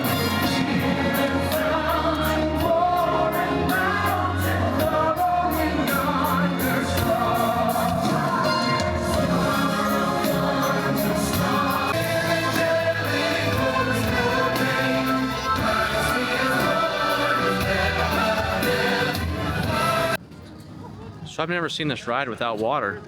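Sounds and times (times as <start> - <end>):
choir singing a carol: 0.0 - 20.2.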